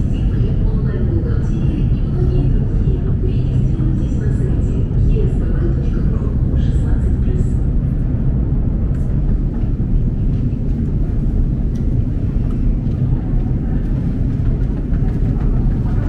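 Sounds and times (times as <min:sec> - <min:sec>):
escalator rumbling: 0:00.0 - 0:16.0.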